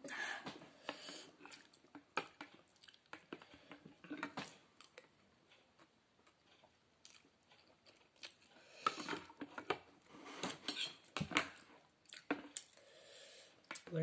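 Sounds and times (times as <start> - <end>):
person chewing: 0.9 - 12.8.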